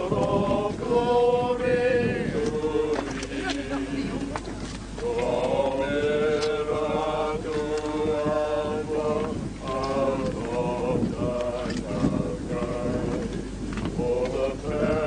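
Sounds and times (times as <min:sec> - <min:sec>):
voices chanting on long notes: 0:00.0 - 0:04.2, 0:05.0 - 0:13.3, 0:14.0 - 0:15.0.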